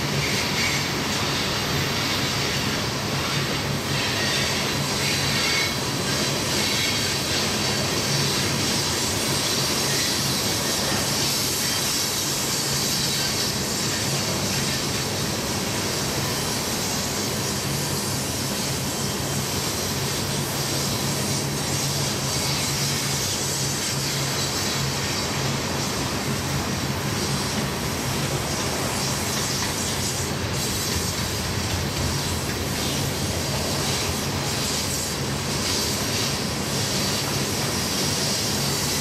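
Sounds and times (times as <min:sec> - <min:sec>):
train wheels rumbling on rail: 0:00.0 - 0:39.0
wheels squealing on curved rail: 0:00.0 - 0:39.0.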